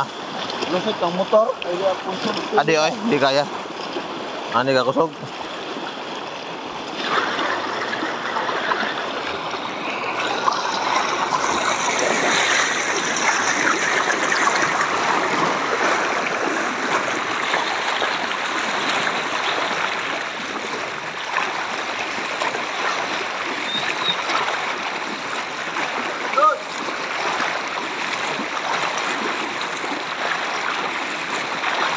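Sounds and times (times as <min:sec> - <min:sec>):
floodwater rushing and gurgling: 0:00.0 - 0:31.9.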